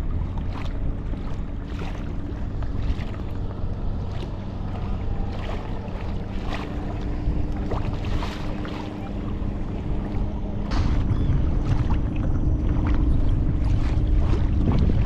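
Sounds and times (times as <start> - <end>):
steady low hum: 0.0 - 15.0
water splashing and lapping: 0.0 - 15.0
wind buffeting microphone: 0.0 - 15.0.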